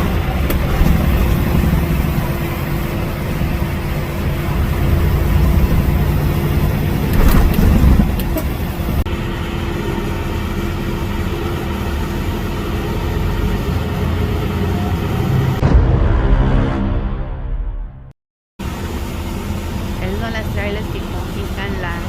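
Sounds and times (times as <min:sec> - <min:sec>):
truck engine and road drone: 0:00.0 - 0:17.3, 0:17.9 - 0:22.0.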